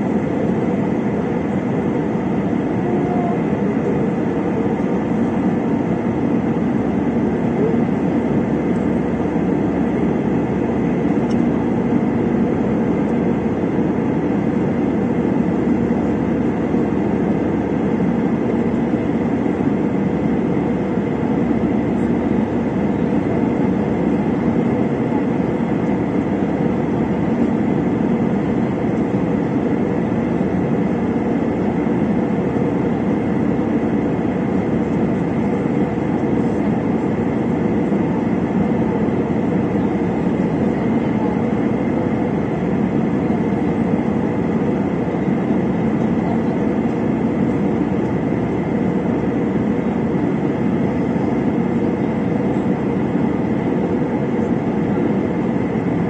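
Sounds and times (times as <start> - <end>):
jet engines and rushing airflow: 0.0 - 56.0.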